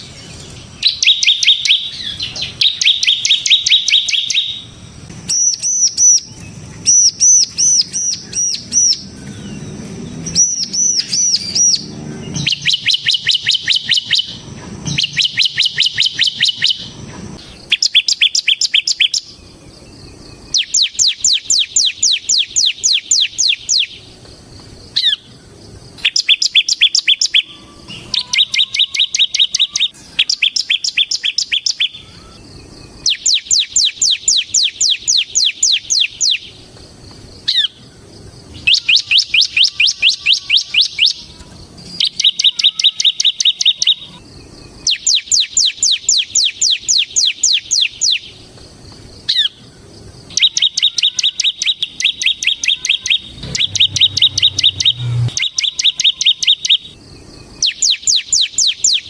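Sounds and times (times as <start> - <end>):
bird singing sharp chirps: 0.0 - 24.1, 24.9 - 36.6, 37.4 - 48.4, 49.2 - 59.0.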